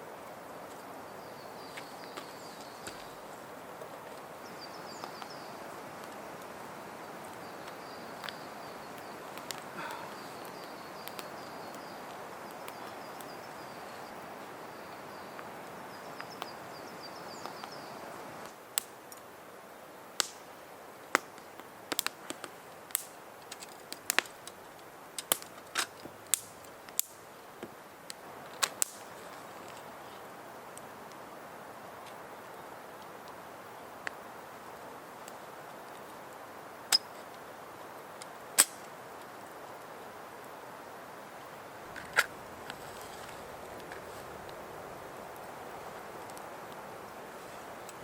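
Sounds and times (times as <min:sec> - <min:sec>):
campfire crackling and popping: 0:00.2 - 0:48.0.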